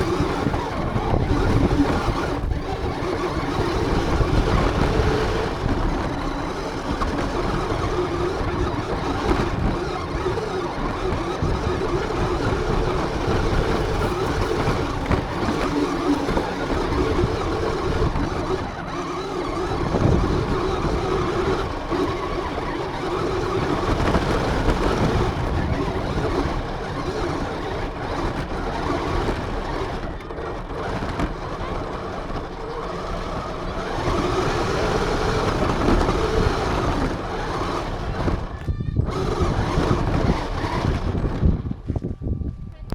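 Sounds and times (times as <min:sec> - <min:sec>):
rc car motor running: 0:00.0 - 0:41.8
rough ground noise: 0:00.0 - 0:42.9.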